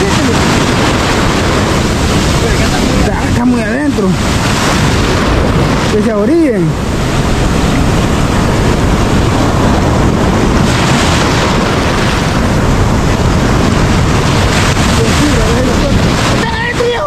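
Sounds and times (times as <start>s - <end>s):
ocean surf foaming: 0.0s - 17.0s
wind buffeting microphone: 0.0s - 17.0s.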